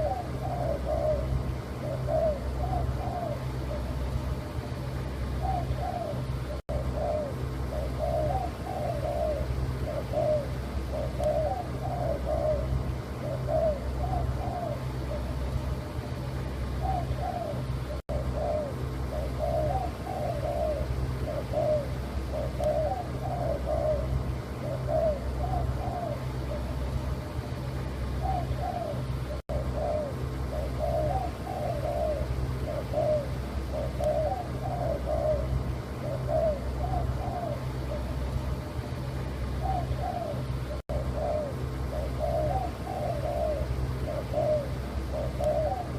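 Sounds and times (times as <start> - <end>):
dove cooing: 0.0 - 45.9
steady low hum: 0.0 - 45.9.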